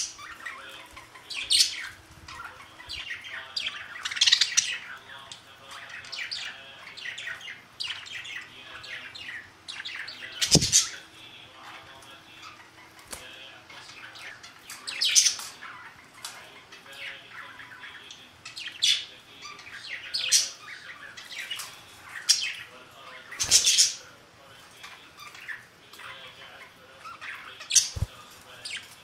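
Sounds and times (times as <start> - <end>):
budgerigars chirping: 0.0 - 11.0, 13.7 - 24.0, 24.9 - 29.0.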